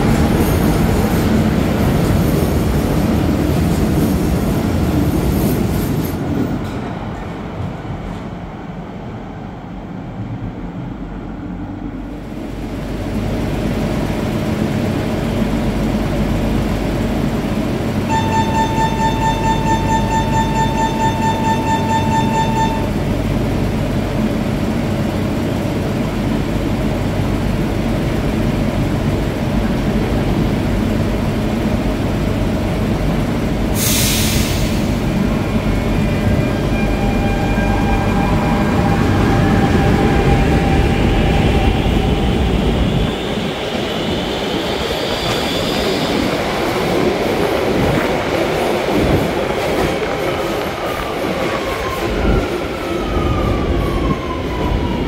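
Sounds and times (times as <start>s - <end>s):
metro train slowing to a stop: 0.0s - 55.0s
train rumbling hum: 0.0s - 55.0s.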